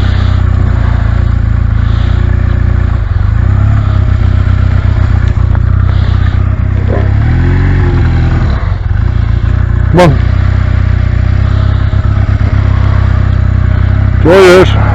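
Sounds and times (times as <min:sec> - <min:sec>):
motorcycle engine revving: 0:00.0 - 0:14.9
motorcycle engine running: 0:00.0 - 0:14.9.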